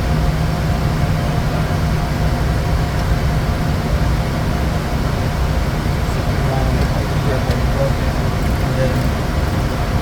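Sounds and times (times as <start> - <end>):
jet cabin air rush and engine rumble: 0.0 - 10.0.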